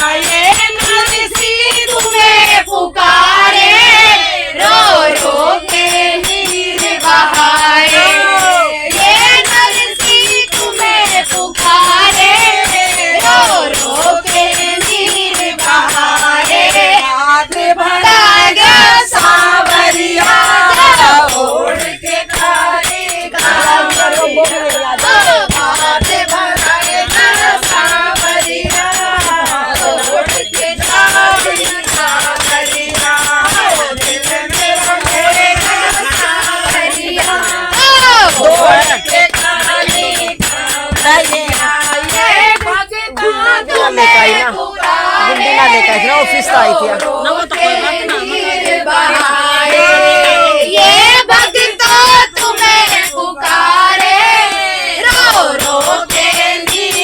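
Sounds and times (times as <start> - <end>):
jingling hand percussion: 0.0 - 57.0
women singing together: 0.0 - 57.0.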